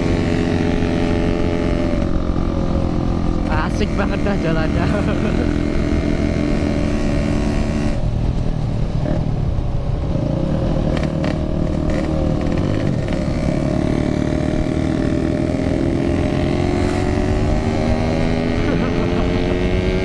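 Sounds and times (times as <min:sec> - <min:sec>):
two-stroke motorcycle engine: 0:00.0 - 0:09.4, 0:10.1 - 0:20.0.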